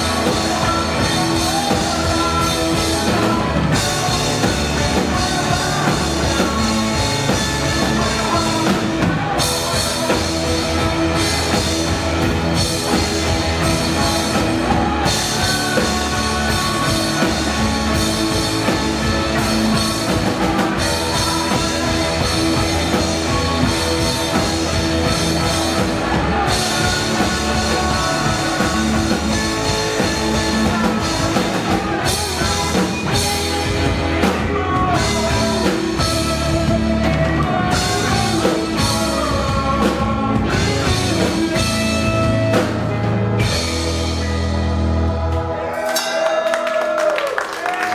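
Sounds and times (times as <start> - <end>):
distorted guitars: 0.0 - 46.7
drum kit: 0.0 - 47.9.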